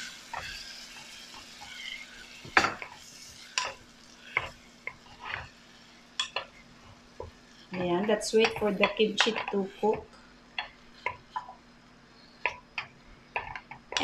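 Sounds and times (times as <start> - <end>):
faint sizzle: 0.0 - 14.0
wooden spatula stirring food: 0.0 - 14.0.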